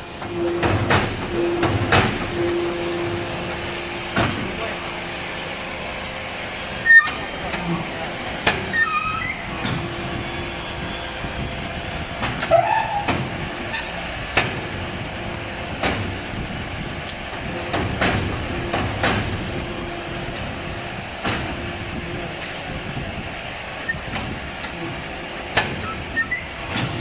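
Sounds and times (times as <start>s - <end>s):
brick machine hissing and humming: 0.0s - 27.0s.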